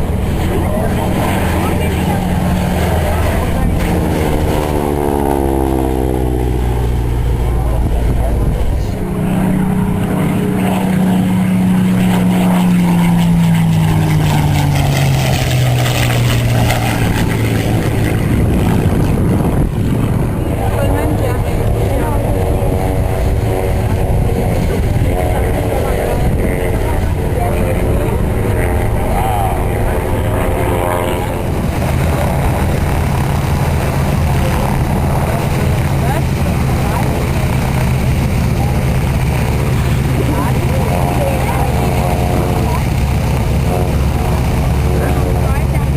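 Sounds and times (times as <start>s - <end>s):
propeller aircraft flying past: 0.0s - 45.9s.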